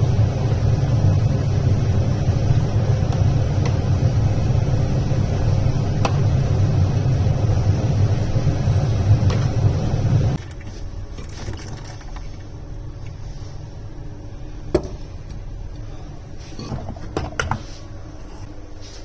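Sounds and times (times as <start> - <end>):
faint hum: 0.0 - 19.0
loud low machine hum: 0.0 - 19.0.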